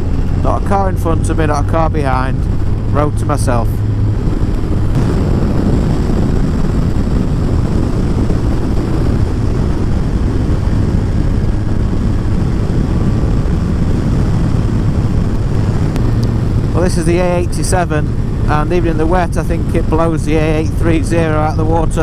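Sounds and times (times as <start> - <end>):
motorcycle engine drone: 0.0 - 22.0
wind rushing on microphone: 0.0 - 22.0.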